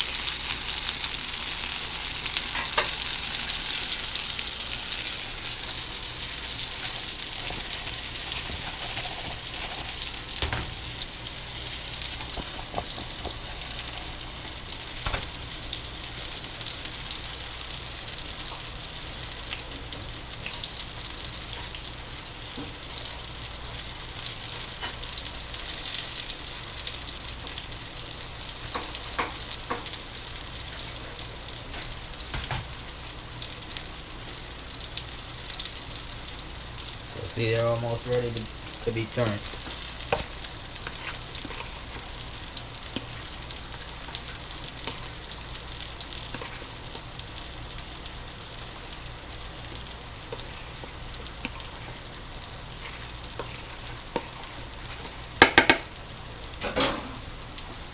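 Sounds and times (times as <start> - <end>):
food sizzling in a pan: 0.0 - 57.9.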